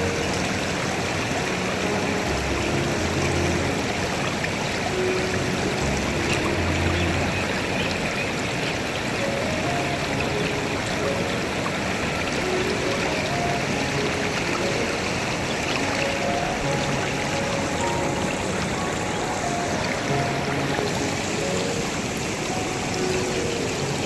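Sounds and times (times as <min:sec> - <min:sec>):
stream rushing: 0:00.0 - 0:24.0.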